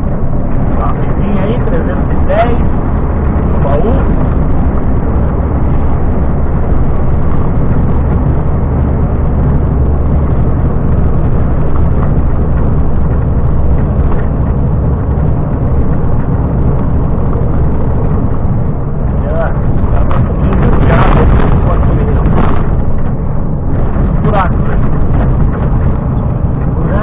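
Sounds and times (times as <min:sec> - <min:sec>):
road noise: 0:00.0 - 0:27.0
truck engine drone: 0:00.0 - 0:27.0.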